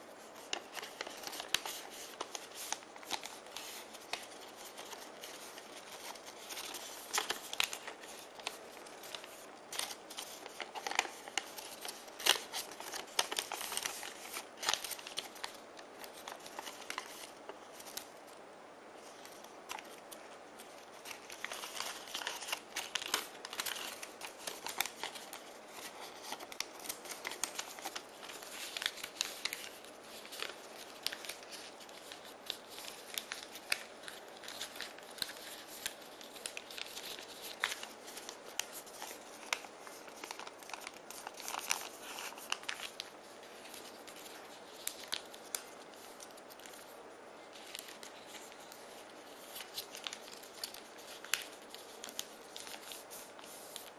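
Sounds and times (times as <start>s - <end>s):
paper crinkling as it is folded: 0.0s - 18.4s, 19.0s - 53.9s.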